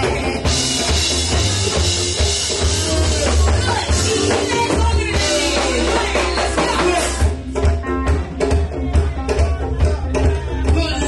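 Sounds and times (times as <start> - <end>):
bass guitar: 0.0 - 11.0
drum kit with cymbals: 0.0 - 11.0
electric guitar: 0.0 - 11.0
people singing into microphones: 0.0 - 11.0.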